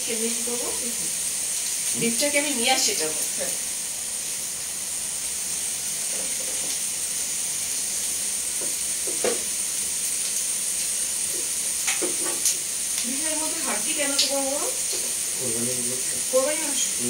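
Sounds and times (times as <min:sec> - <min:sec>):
gas stove hissing: 0:00.0 - 0:17.0.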